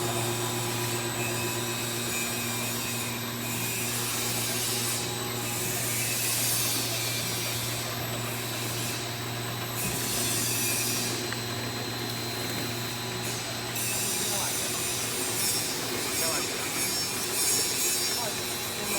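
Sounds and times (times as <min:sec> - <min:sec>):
machinery humming and rattling: 0:00.0 - 0:18.9.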